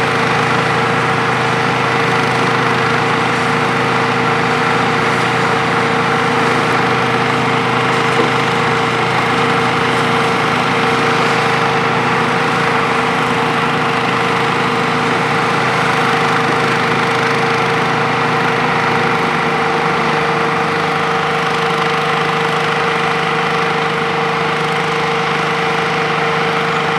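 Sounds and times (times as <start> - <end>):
excavator diesel engine and hydraulics: 0.0 - 26.9.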